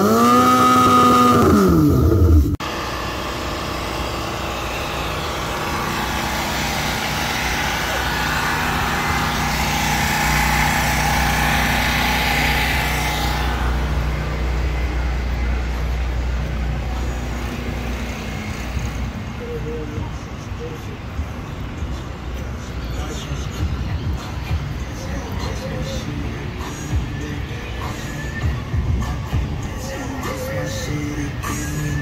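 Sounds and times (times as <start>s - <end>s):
car engine rolling past: 0.0s - 32.0s
idling engines hum: 0.0s - 32.0s.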